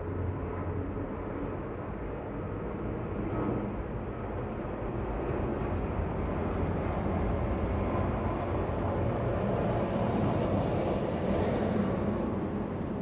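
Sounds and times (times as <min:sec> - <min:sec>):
city ambience rumble and hiss: 0:00.0 - 0:13.0.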